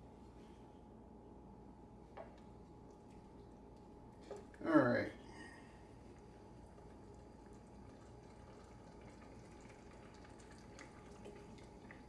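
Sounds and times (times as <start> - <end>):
low steady hum: 0.0 - 12.0
stew simmering with soft bubbling: 1.8 - 12.0.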